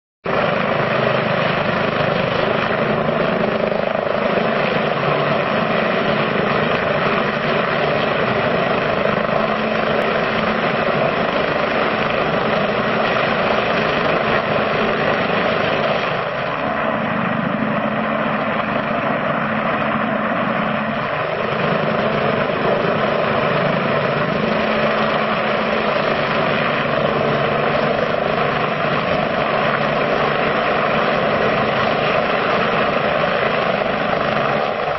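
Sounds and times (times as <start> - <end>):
helicopter hovering: 0.2 - 34.9.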